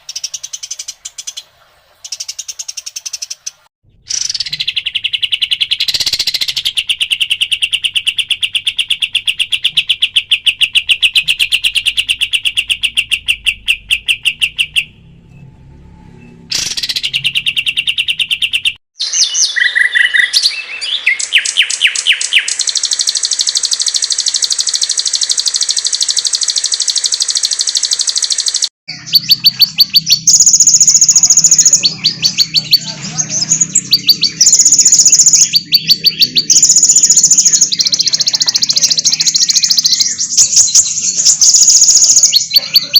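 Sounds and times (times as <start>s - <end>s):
songbirds chattering song: 0.0s - 15.0s, 16.5s - 42.9s.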